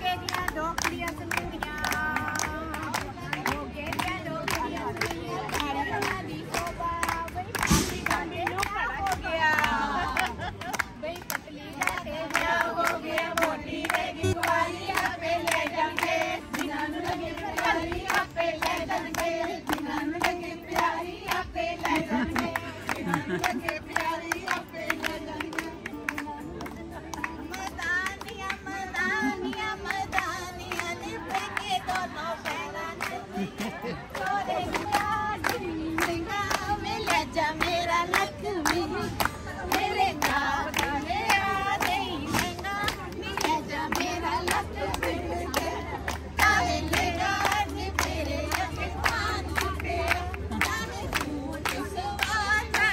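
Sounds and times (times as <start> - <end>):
hands clapping in rhythm: 0.0 - 52.9
women singing together: 0.0 - 52.9.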